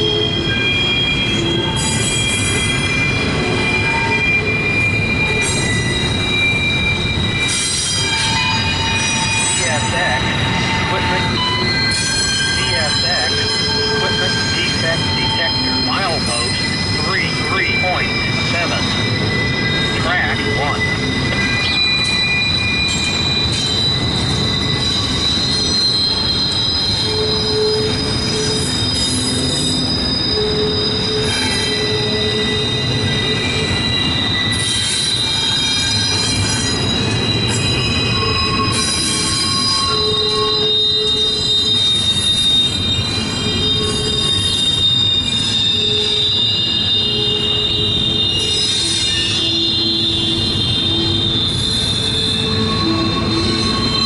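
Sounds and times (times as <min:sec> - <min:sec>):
rumble of wheels on track: 0:00.0 - 0:54.0
train wheels squealing on rails: 0:00.0 - 0:54.0.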